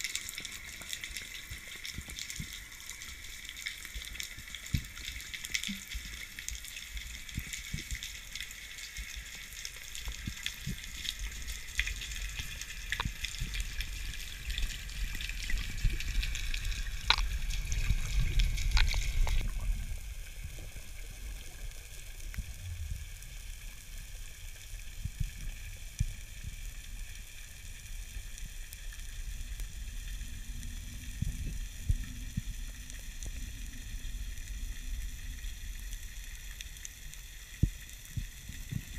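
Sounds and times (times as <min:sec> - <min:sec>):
low rumble of moving water: 0:00.0 - 0:38.9
underwater crackling hiss: 0:00.0 - 0:38.9.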